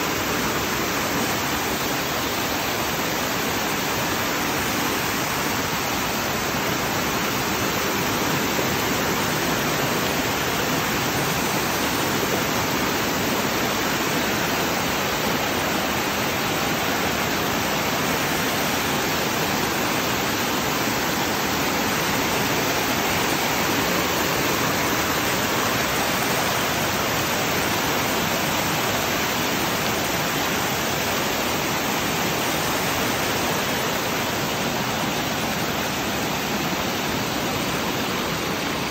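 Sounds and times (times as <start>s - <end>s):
water cascading over rocks: 0.0s - 38.9s.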